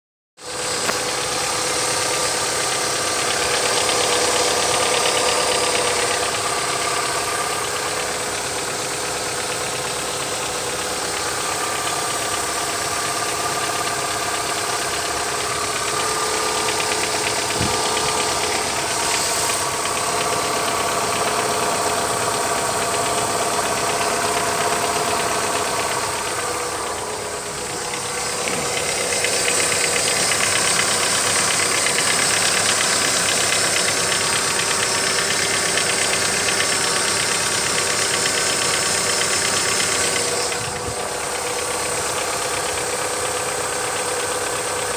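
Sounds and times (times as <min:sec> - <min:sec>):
engine idling with regular knock: 0:00.4 - 0:44.9.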